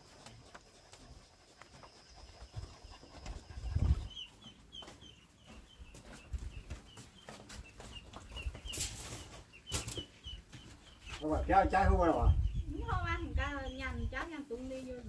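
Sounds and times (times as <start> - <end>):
chickens peeping: 0.1 - 14.8.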